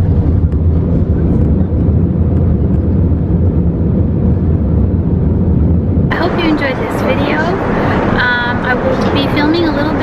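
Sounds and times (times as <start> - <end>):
airliner cabin engine roar: 0.0 - 10.0.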